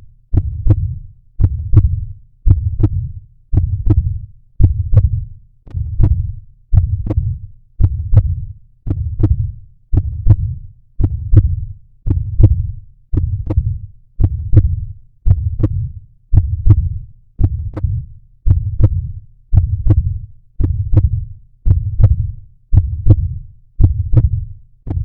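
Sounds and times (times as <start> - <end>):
heartbeat double thump: 0.3 - 25.0.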